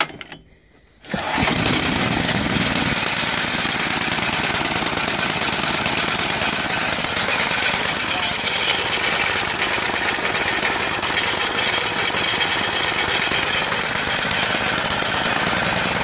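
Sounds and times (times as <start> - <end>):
snowblower engine running: 1.0 - 16.0.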